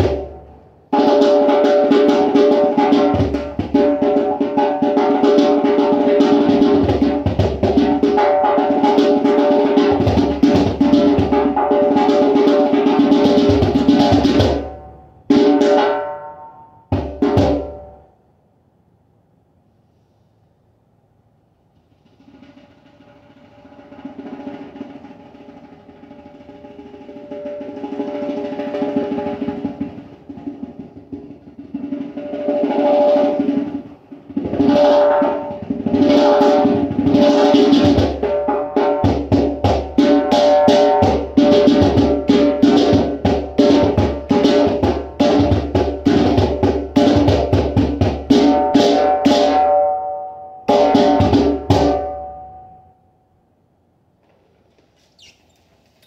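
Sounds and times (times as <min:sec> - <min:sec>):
hand drum strikes: 0:00.0 - 0:16.3, 0:22.0 - 0:50.0, 0:50.7 - 0:52.6.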